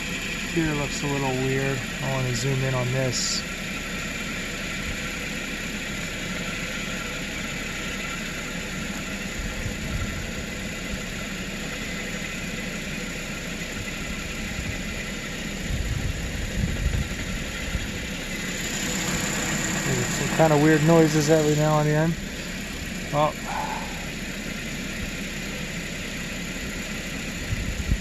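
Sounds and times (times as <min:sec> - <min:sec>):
car engine idling with misfire: 0:00.0 - 0:28.0.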